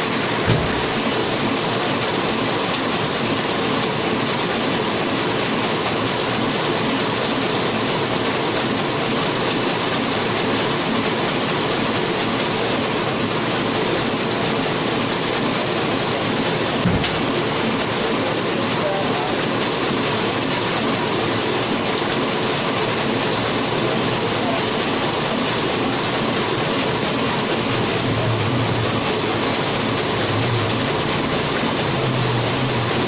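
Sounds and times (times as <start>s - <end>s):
printing press clattering: 0.0s - 33.0s.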